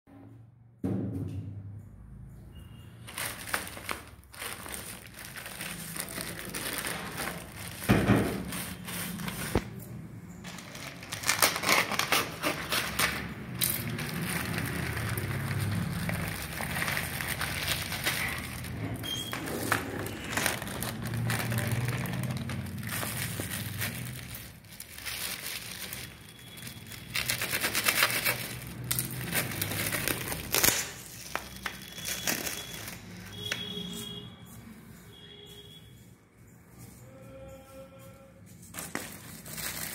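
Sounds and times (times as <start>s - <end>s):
plastic wrap crinkling: 3.0s - 34.3s, 38.5s - 39.9s.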